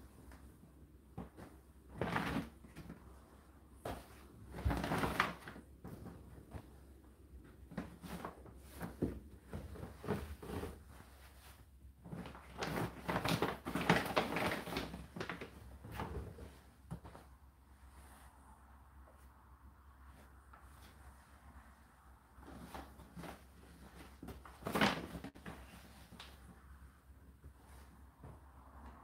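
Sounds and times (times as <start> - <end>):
fabric rustling: 0.0 - 29.0.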